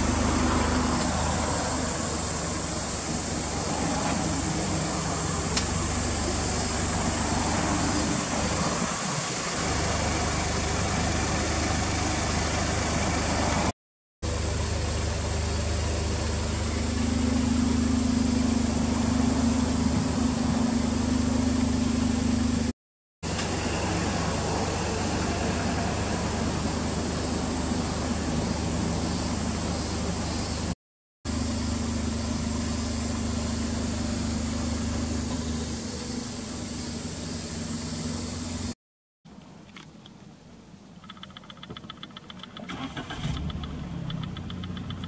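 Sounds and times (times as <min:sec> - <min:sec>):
car engine idling: 0:00.0 - 0:30.7, 0:31.3 - 0:38.7, 0:41.8 - 0:45.0.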